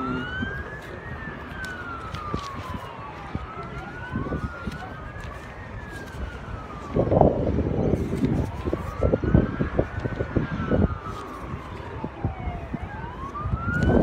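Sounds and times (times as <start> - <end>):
siren wailing: 0.0 - 14.0
wind buffeting microphone: 0.2 - 14.0.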